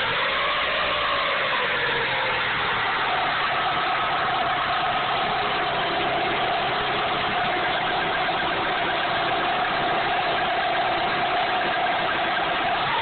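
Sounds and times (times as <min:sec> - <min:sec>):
car engine running: 0:00.0 - 0:13.0
steady whine: 0:00.0 - 0:13.0.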